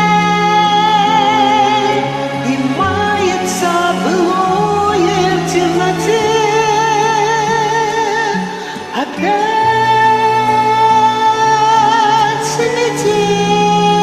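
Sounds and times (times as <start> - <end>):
karaoke backing track: 0.0 - 14.0
person singing with vibrato: 0.0 - 14.0.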